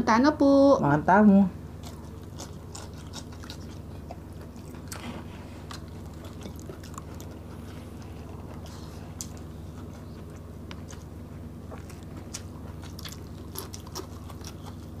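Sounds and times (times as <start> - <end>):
low hum: 0.0 - 15.0
chewing and mouth sounds: 1.8 - 15.0.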